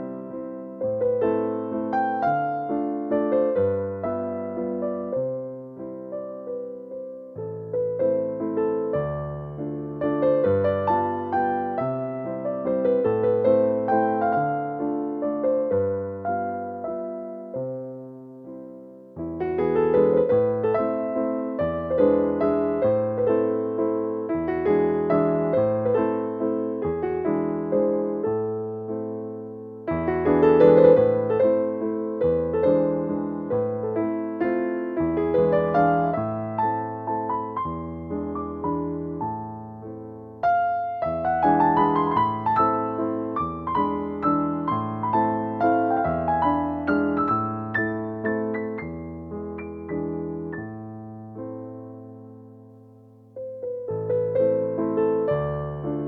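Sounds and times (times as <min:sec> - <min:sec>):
gentle piano melody: 0:00.0 - 0:56.0.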